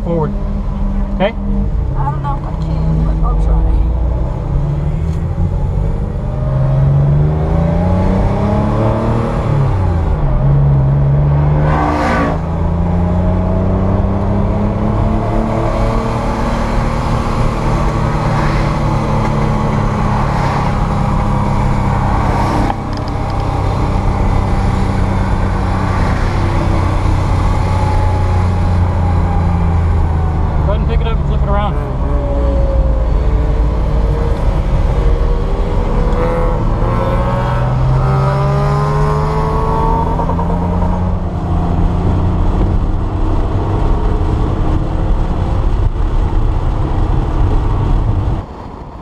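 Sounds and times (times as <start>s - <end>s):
car engine pulling hard: 0.0s - 49.0s.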